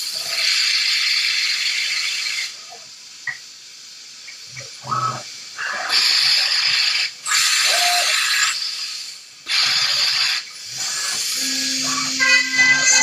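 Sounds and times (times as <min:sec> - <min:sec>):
machine cutting hiss: 0:00.0 - 0:13.0.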